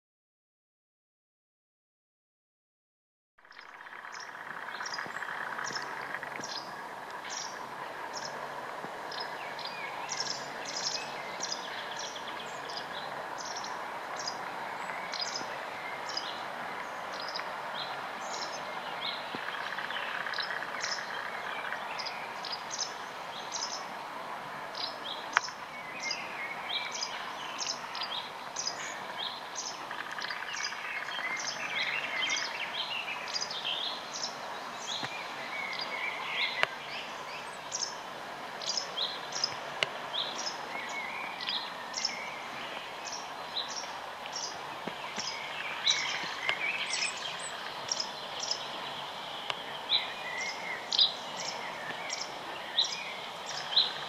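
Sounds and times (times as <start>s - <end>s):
songbirds chirping and singing: 3.4s - 54.0s
background hiss: 3.5s - 54.0s.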